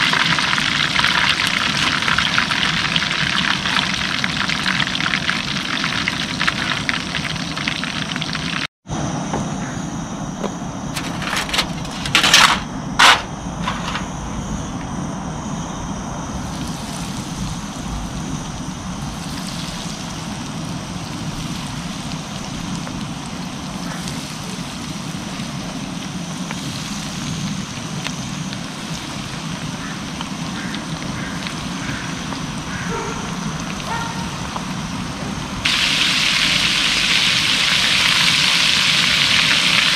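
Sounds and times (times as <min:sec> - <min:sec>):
hot oil sizzling and bubbling: 0:00.0 - 0:08.7, 0:16.2 - 0:39.9.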